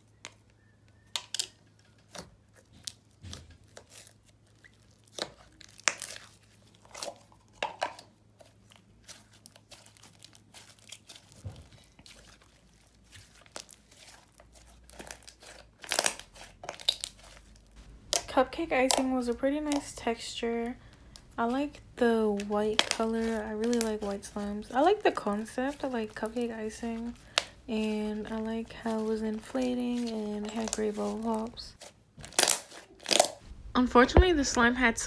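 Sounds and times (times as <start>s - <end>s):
slime crackling and popping: 1.0s - 7.7s, 8.4s - 33.8s.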